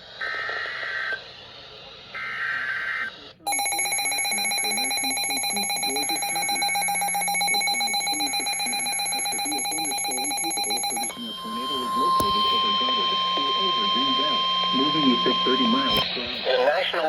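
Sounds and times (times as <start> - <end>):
shrill emergency alert tone: 2.2 - 16.0.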